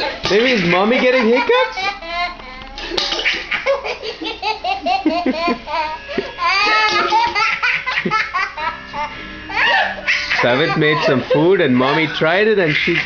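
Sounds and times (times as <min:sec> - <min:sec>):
child laughing hard: 0:00.1 - 0:13.0.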